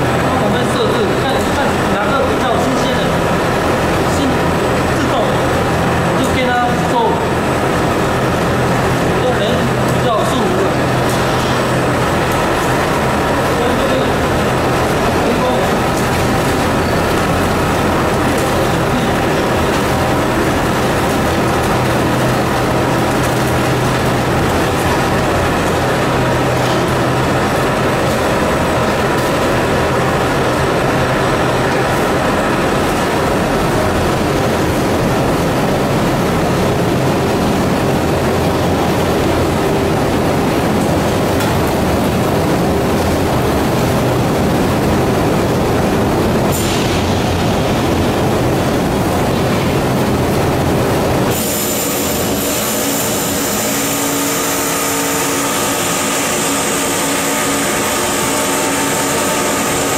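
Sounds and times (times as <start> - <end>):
machine whines: 0.0 - 49.8, 51.2 - 59.9
fryer conveyor mechanical noise: 0.0 - 59.9.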